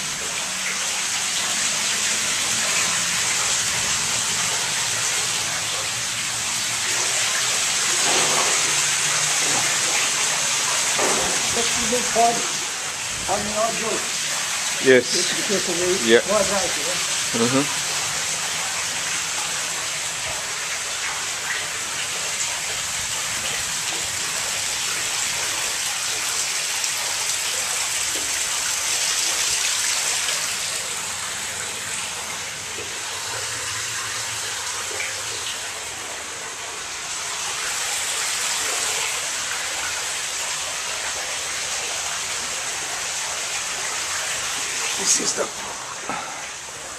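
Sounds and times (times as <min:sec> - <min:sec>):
flowing water: 0:00.0 - 0:46.9.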